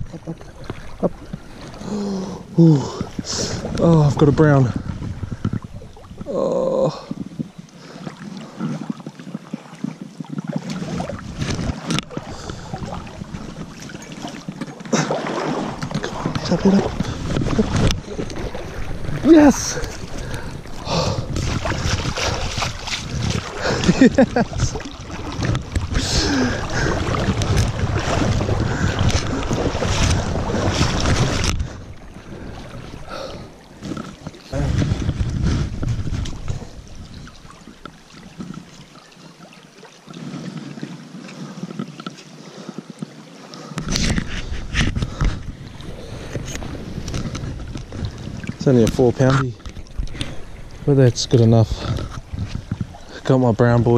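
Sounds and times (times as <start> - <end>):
wind buffeting microphone: 0.0 - 7.7, 8.7 - 38.7, 43.8 - 53.9
water splashing from wading: 0.0 - 53.9.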